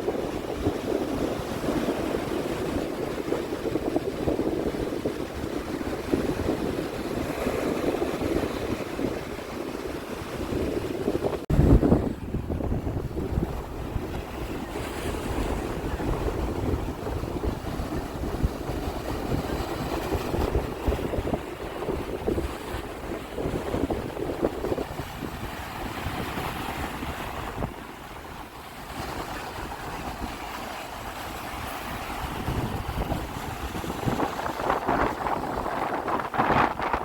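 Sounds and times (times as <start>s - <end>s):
sea waves washing: 0.0s - 37.0s
wind buffeting microphone: 0.0s - 37.0s.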